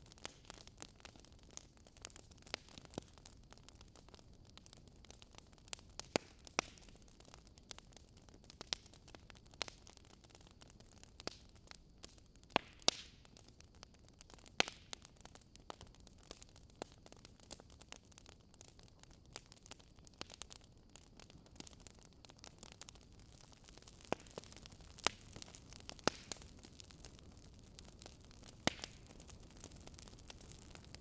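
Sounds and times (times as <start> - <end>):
faint steady hiss: 0.0 - 31.0
wood fire crackling: 0.0 - 31.0.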